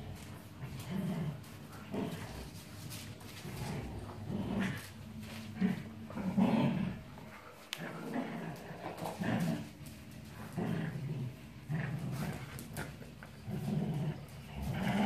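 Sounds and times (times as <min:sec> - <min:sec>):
dogs growling: 0:00.0 - 0:15.0.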